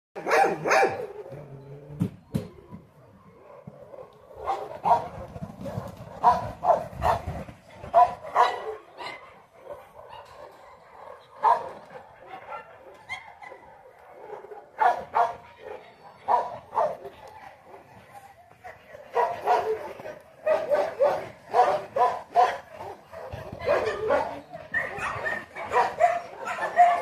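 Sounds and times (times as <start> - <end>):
dog barking: 0.2 - 1.2, 3.4 - 7.3, 7.9 - 17.1, 18.9 - 27.0.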